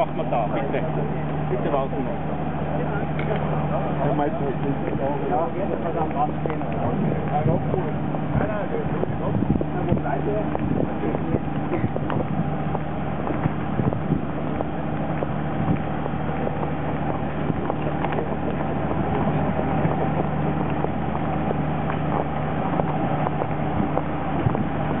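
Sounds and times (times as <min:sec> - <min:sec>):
engines droning: 0:00.0 - 0:25.0
low hum: 0:00.0 - 0:25.0.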